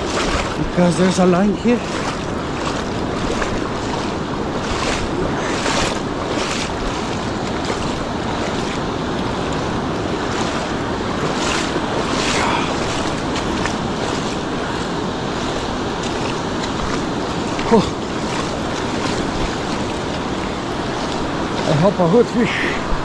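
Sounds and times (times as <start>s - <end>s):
sea surf washing: 0.0s - 23.0s
water swishes: 0.0s - 23.0s
wind rumbling on microphone: 0.0s - 23.0s.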